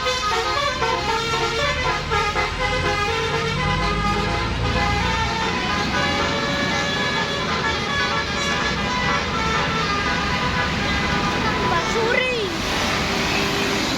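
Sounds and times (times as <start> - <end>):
low bus engine rumble: 0.0 - 13.9
musical bus horn playing a tune: 0.0 - 13.9.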